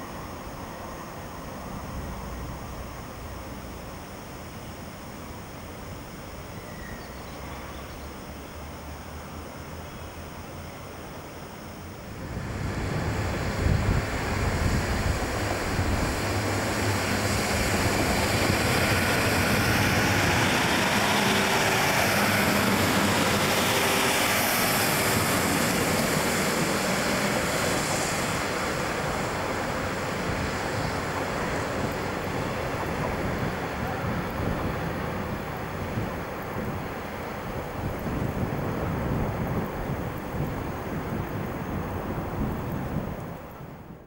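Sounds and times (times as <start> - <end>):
diesel train passing: 0.0 - 44.0.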